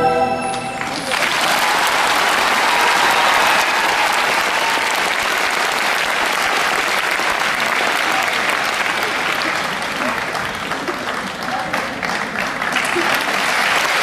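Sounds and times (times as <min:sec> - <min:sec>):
audience applauding: 0:00.5 - 0:14.0.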